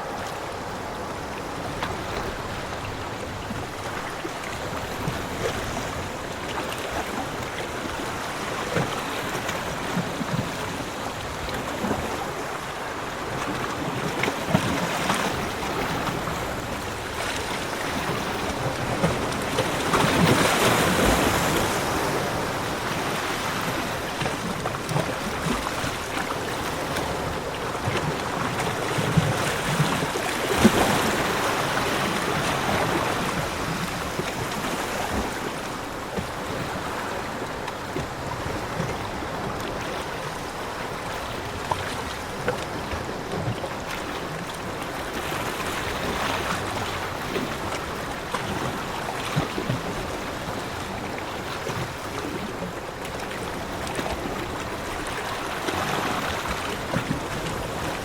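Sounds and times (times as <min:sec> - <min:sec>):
ocean surf washing on beach: 0:00.0 - 0:58.0.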